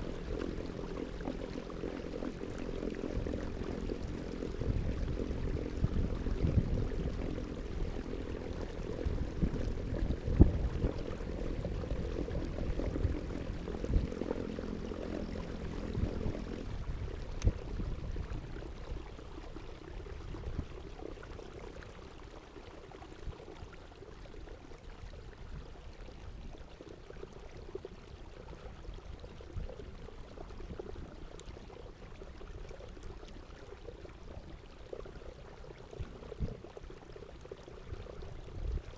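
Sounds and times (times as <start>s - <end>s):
water splashing and gurgling: 0.0s - 38.9s.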